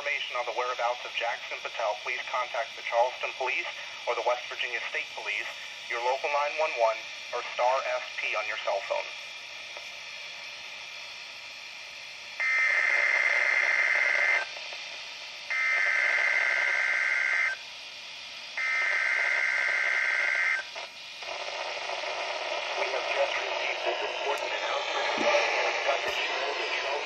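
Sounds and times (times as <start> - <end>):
radio hiss: 0.0 - 27.0.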